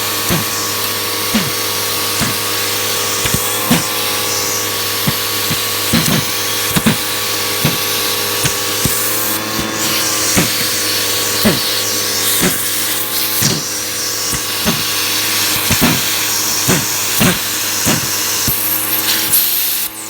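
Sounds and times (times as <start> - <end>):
vacuum cleaner motor hum: 0.0 - 20.0.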